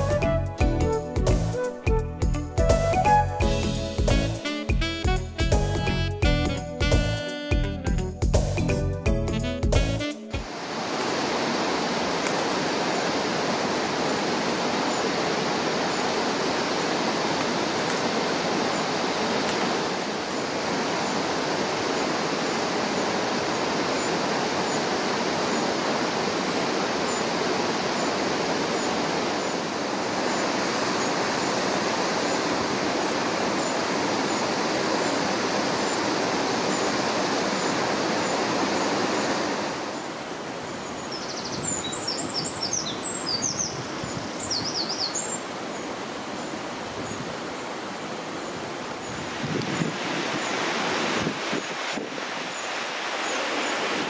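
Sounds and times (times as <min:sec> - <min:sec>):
waterfall rushing: 0:10.3 - 0:54.0
river running over rocks: 0:10.4 - 0:54.0.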